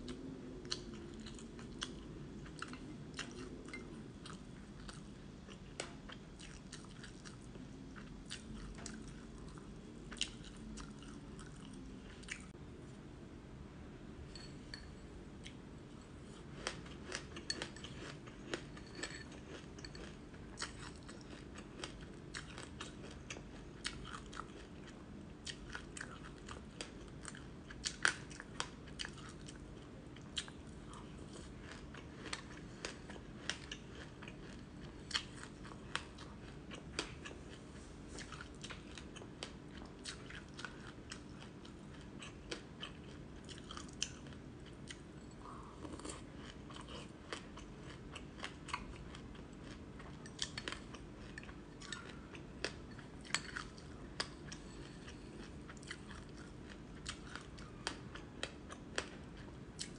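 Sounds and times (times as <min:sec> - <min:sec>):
chewing and crunching: 0:00.0 - 0:12.6, 0:14.4 - 0:59.9.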